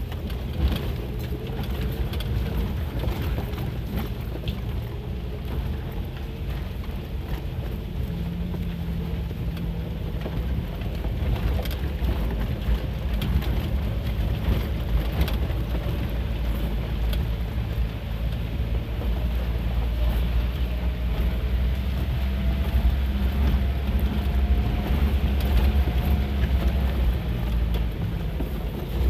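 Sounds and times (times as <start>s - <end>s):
engine and tyre rumble: 0.0s - 29.0s.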